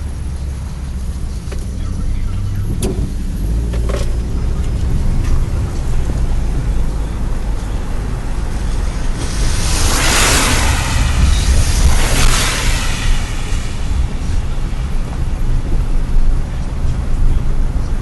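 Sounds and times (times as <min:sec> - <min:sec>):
car engine and road noise: 0:00.0 - 0:18.0
loud rush of noise: 0:00.0 - 0:18.0.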